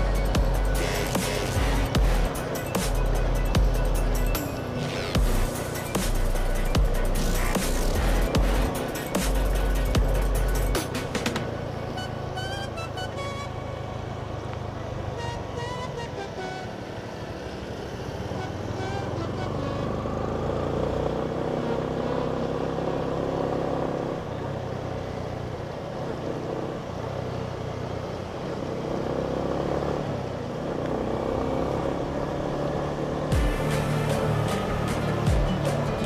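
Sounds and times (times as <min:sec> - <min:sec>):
motorcycle engine running: 0:00.0 - 0:15.6, 0:16.7 - 0:36.0
road and wind noise: 0:00.0 - 0:36.0.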